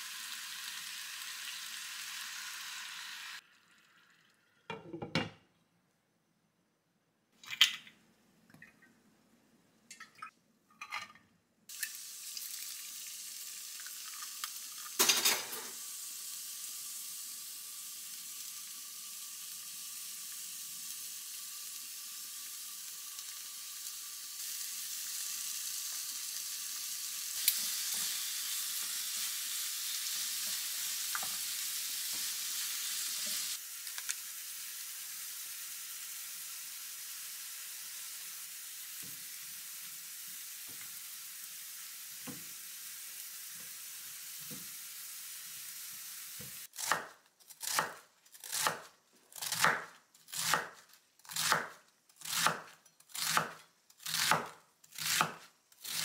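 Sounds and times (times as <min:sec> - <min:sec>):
oil sizzling in a pan: 0:00.0 - 0:05.0, 0:11.7 - 0:56.0.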